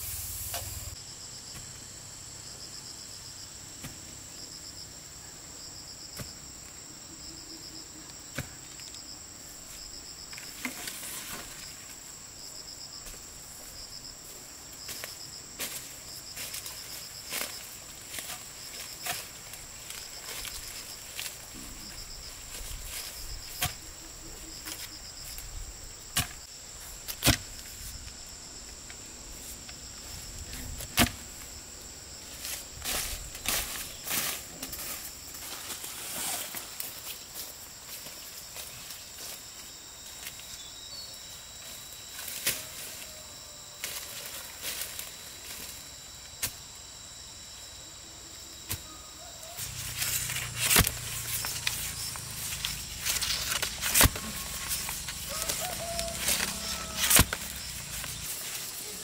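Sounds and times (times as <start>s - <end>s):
cricket chirping: 0.0s - 59.0s
insects droning: 0.0s - 59.0s.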